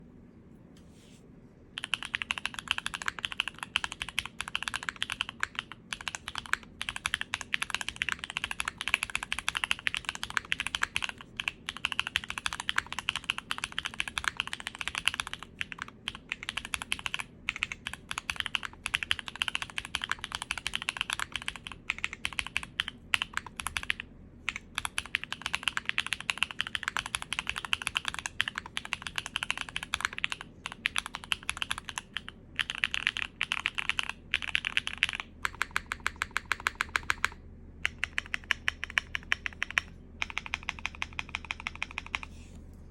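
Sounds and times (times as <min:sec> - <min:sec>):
fast mechanical keyboard typing: 0:01.8 - 0:42.3.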